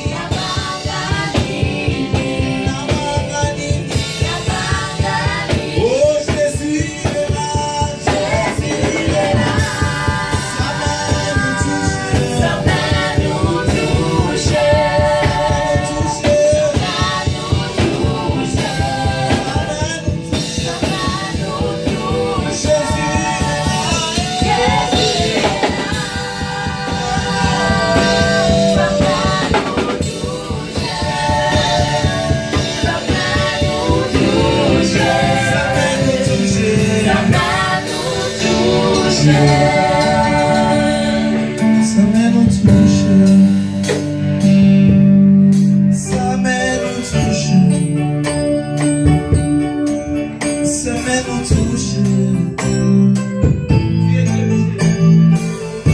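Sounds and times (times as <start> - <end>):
choir singing gospel: 0.0 - 44.8
band with drum kit: 0.0 - 55.9.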